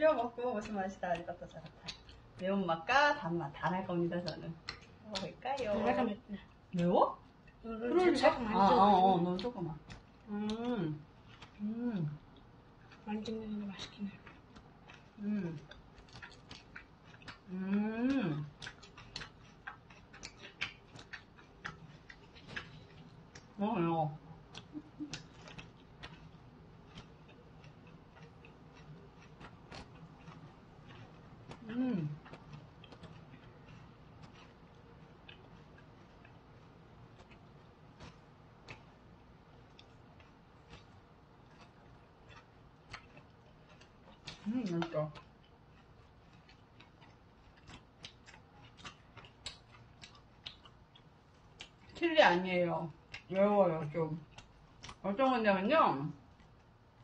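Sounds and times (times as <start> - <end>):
chewing crunchy food: 0.0 - 57.0.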